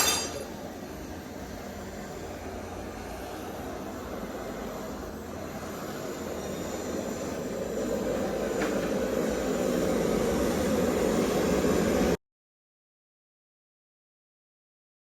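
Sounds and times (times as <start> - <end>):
gas torch flame rushing: 0.0 - 12.2.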